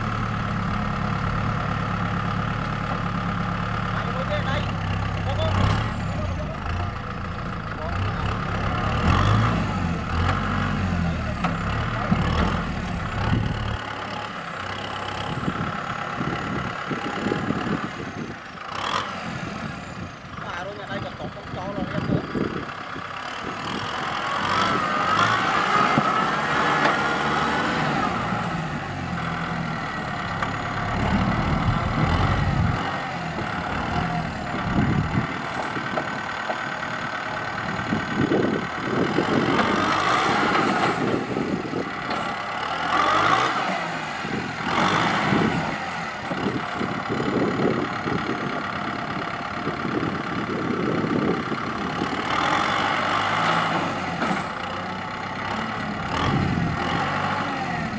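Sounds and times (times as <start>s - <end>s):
tractor diesel engine under load: 0.0s - 57.9s.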